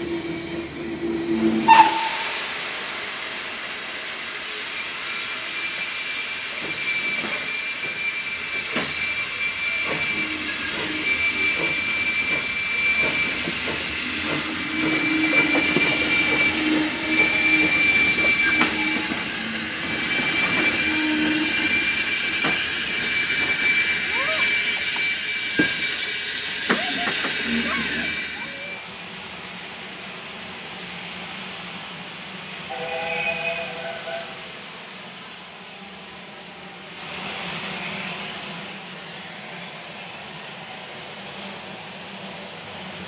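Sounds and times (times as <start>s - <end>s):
steam locomotive hissing: 0.0s - 43.0s.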